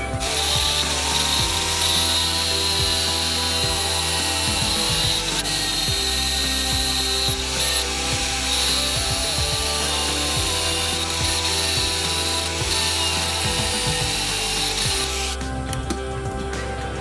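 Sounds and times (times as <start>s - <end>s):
background music: 0.0s - 17.0s
power tool running: 0.0s - 17.0s.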